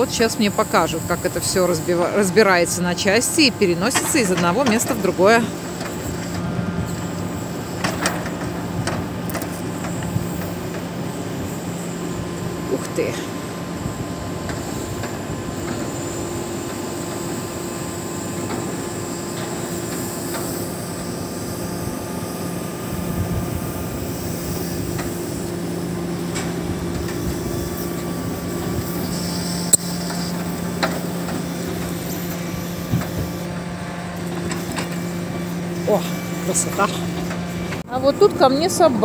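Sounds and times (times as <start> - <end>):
log loader motor hum: 0.0 - 39.0.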